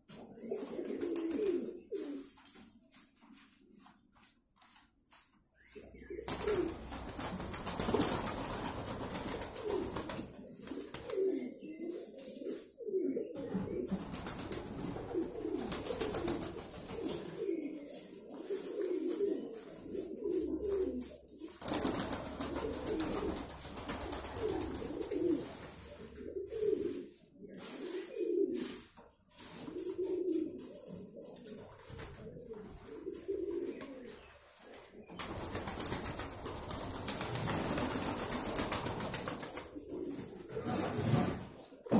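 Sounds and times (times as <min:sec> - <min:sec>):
pigeons cooing: 0:00.1 - 0:02.5, 0:05.7 - 0:41.9.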